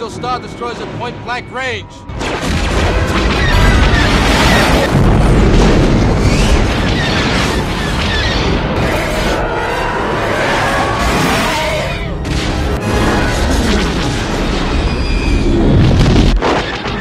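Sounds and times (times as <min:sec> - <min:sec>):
booming explosions: 0:02.1 - 0:17.0.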